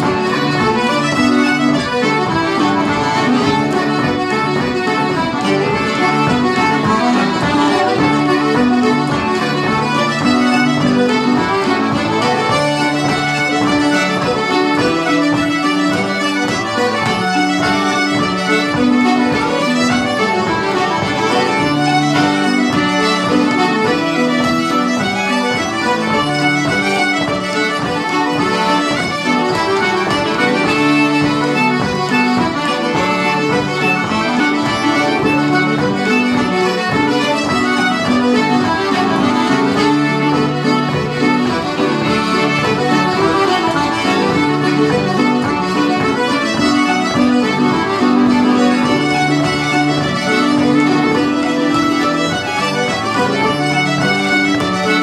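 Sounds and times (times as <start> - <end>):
button accordion: 0.0 - 55.0
fiddle: 0.0 - 55.0.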